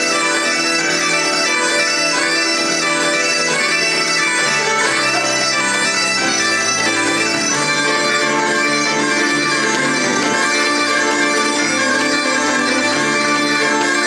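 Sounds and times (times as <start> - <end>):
bagpipes playing over drones: 0.0 - 14.0
fiddle: 0.0 - 14.0
keyboard: 0.0 - 14.0.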